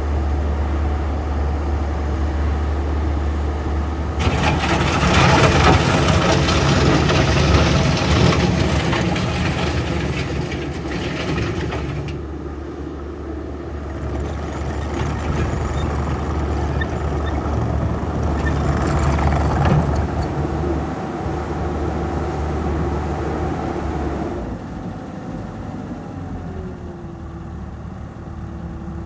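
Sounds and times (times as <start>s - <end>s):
diesel loader engine running: 0.0s - 29.0s.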